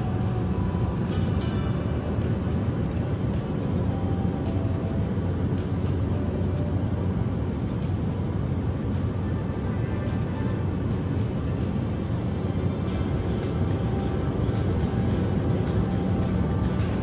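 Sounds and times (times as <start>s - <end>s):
aircraft engine drone in cabin: 0.0s - 17.0s.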